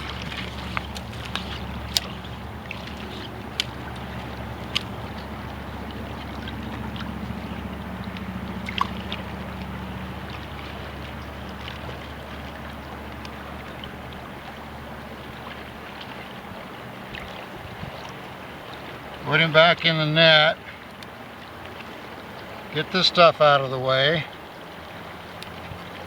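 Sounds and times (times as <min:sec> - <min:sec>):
river water running: 0:00.0 - 0:26.0.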